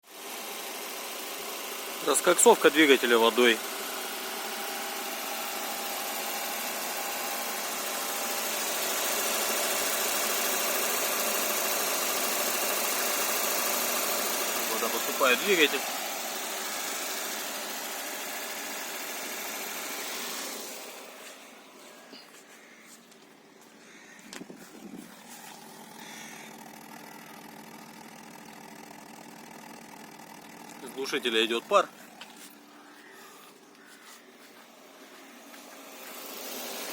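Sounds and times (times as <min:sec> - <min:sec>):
car engine running: 0:00.1 - 0:36.9.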